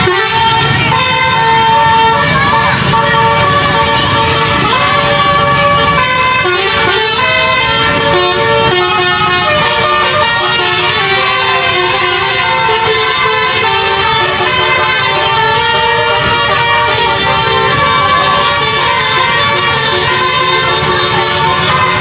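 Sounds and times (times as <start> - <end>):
bus horn playing a tune: 0.0 - 22.0.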